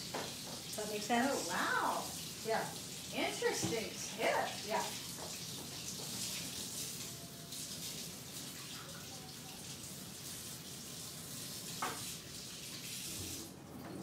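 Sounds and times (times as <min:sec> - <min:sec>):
water running from a tap: 0:00.0 - 0:14.0.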